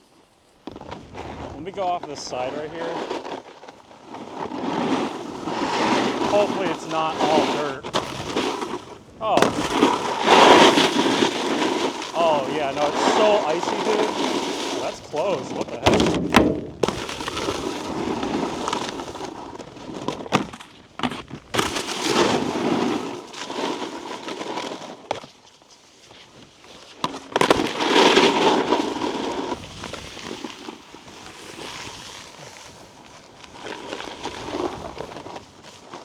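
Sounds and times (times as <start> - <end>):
snowboard scraping icy snow: 0.0 - 36.0.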